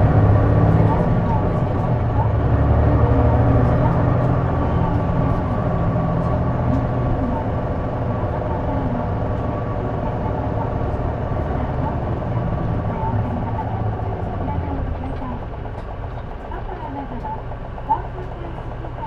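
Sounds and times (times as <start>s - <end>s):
diesel bus engine drone: 0.0s - 19.0s.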